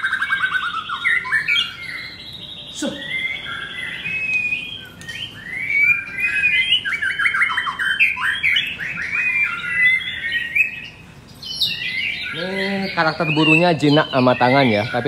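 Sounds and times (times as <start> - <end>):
bird singing whistled phrases: 0.0 - 15.0.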